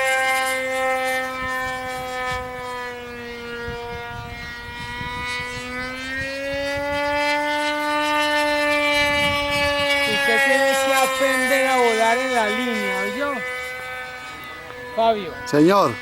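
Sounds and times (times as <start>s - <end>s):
model airplane engine buzzing: 0.0s - 16.0s
wind rumble on microphone: 0.0s - 16.0s.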